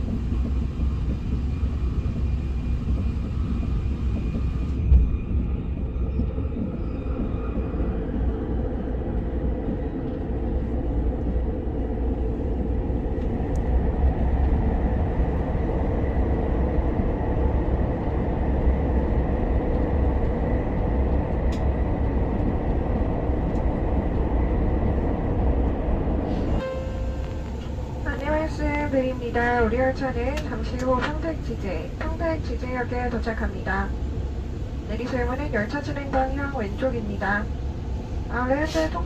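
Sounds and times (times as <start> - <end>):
train low rumble: 0.0 - 39.0.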